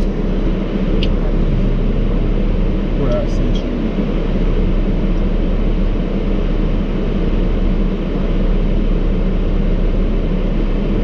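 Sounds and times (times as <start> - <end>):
constant hum and hiss: 0.0 - 11.0
low rumble: 0.0 - 11.0.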